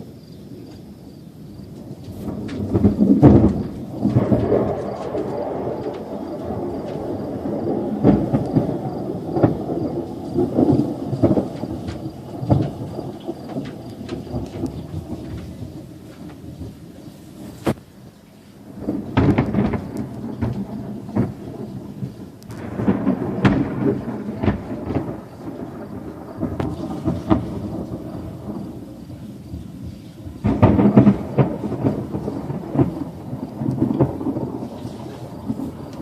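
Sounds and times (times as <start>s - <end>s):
thunder rumbling with cracks: 0.0s - 36.0s.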